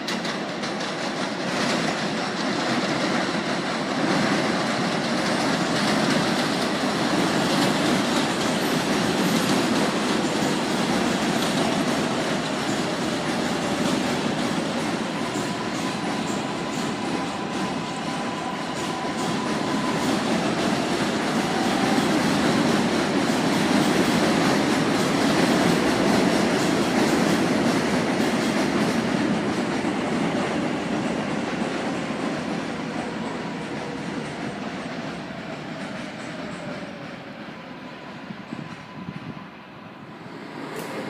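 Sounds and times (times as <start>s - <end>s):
subway train running past: 0.0s - 41.0s.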